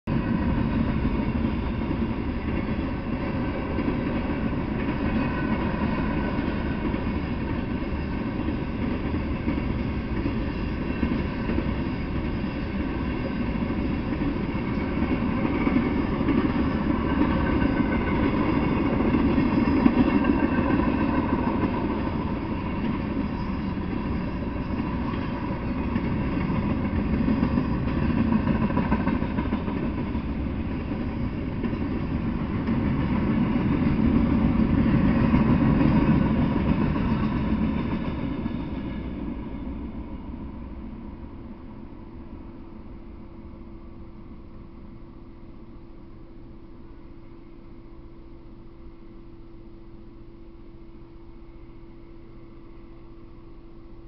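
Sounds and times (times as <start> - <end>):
freight train wheels rumbling on rails: 0.0 - 48.0.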